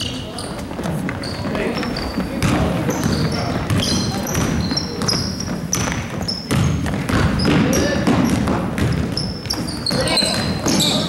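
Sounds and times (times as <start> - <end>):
murmur of crowd voices: 0.0 - 11.0
sneakers squeaking on floor: 0.0 - 11.0
basketball bouncing: 0.8 - 11.0.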